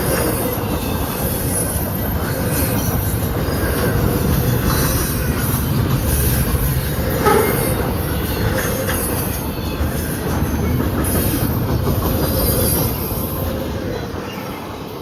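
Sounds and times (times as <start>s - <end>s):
wheel squeal: 0.0s - 14.8s
freight train cars rumbling: 0.0s - 15.0s.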